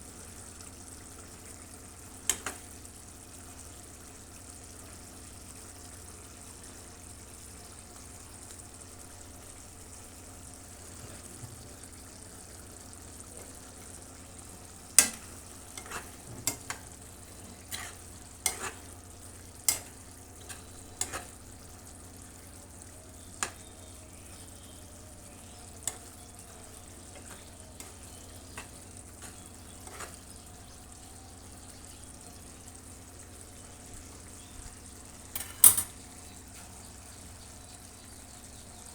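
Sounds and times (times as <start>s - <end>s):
kebabs sizzling in a pan: 0.0s - 38.9s.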